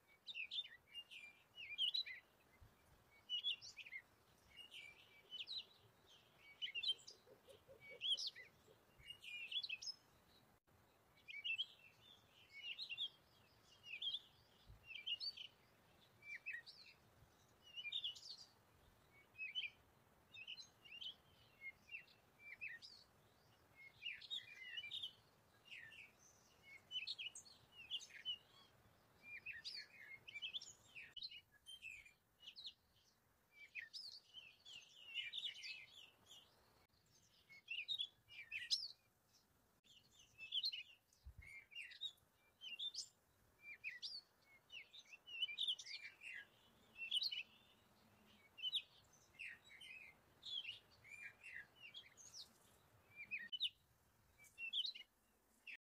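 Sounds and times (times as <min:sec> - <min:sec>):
small birds chirping: 0:00.0 - 0:55.8.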